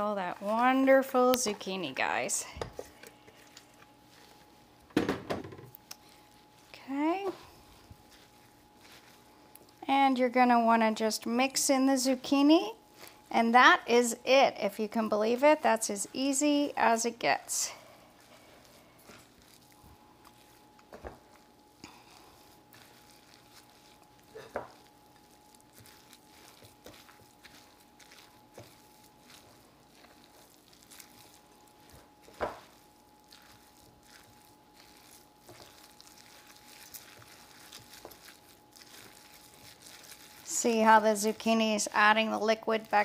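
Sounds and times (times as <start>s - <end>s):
stirring wet batter: 0.0s - 5.1s, 5.7s - 43.0s
faint steady hum: 0.0s - 43.0s.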